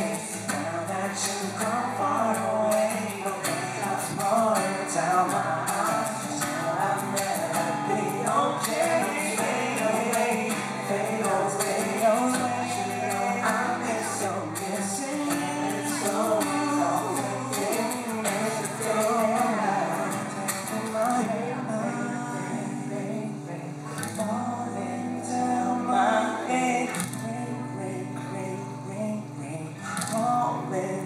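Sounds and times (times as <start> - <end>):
acoustic pop ballad: 0.0 - 31.0
men singing: 0.0 - 31.0.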